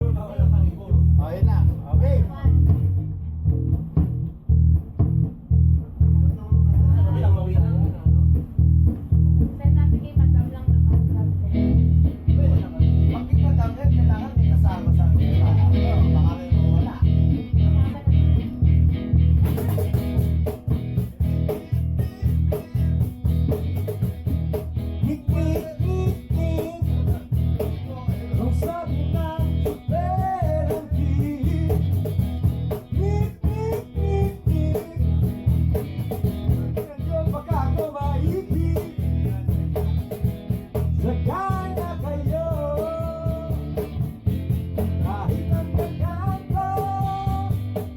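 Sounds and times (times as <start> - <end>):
loud bass line: 0.0 - 47.9
steady drum beat: 0.0 - 47.9
strummed guitars: 0.0 - 47.9.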